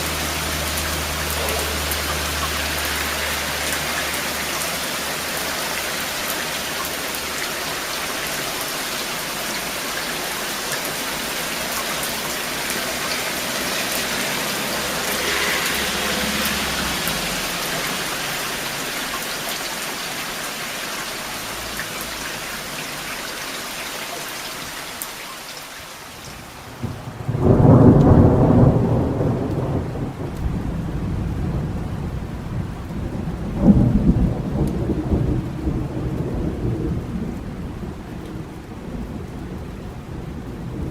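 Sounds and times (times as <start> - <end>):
raindrop ticks: 0.0 - 40.9
steady rain falling: 0.0 - 40.9.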